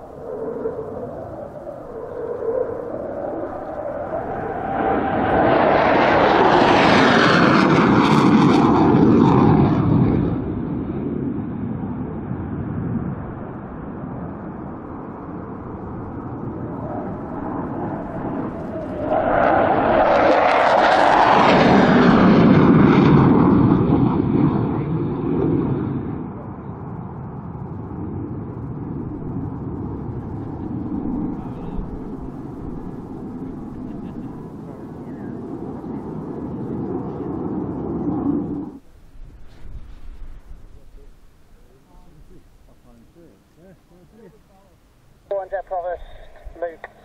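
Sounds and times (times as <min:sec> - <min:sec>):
fighter jet roar: 0:00.0 - 0:43.5.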